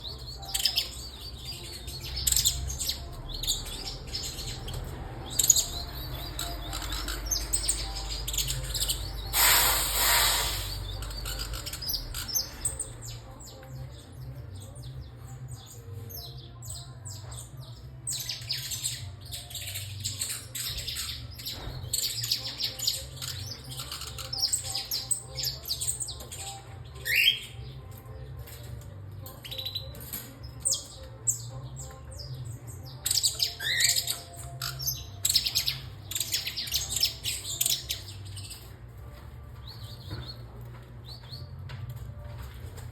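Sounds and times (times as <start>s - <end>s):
finches chirping: 0.0s - 28.4s, 29.4s - 38.6s.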